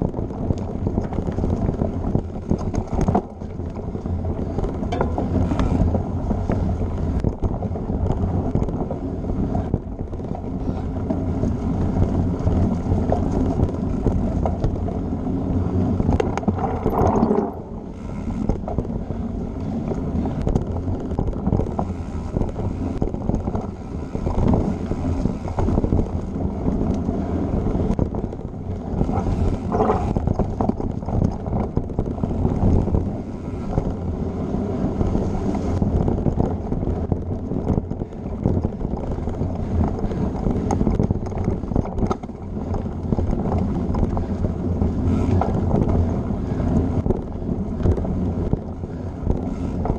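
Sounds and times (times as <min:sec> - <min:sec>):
bike rattling over bumps: 0:00.0 - 0:49.9
tyres rumbling on dirt: 0:00.0 - 0:49.9
wind buffeting microphone: 0:00.0 - 0:49.9.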